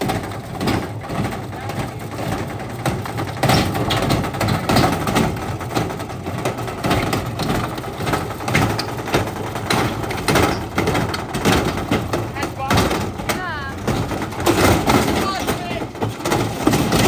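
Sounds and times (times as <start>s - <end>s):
bricks banging against drum: 0.0s - 17.0s
washing machine running: 0.0s - 17.0s.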